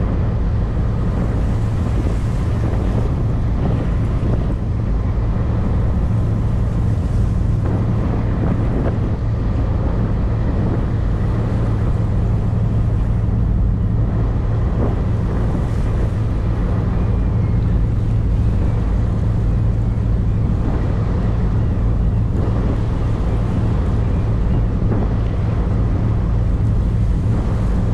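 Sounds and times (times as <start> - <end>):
motorboat engine humming: 0.0 - 27.9
water rushing past hull: 0.0 - 27.9
wind buffeting microphone: 0.0 - 27.9.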